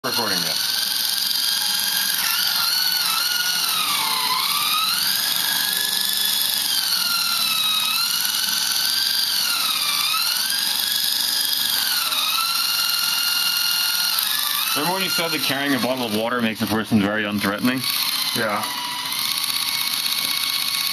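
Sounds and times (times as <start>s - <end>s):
toy helicopter rotors whining: 0.0s - 20.9s.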